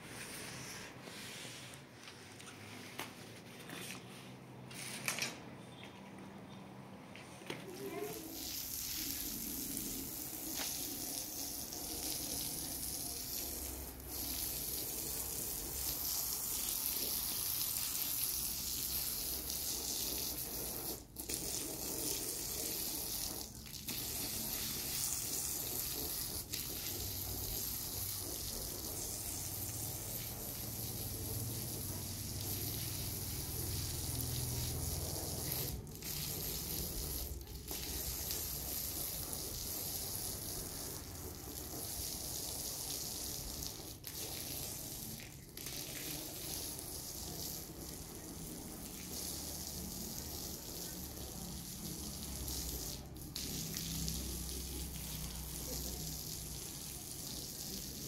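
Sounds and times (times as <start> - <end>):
hose spraying water on paving: 7.7 - 58.0.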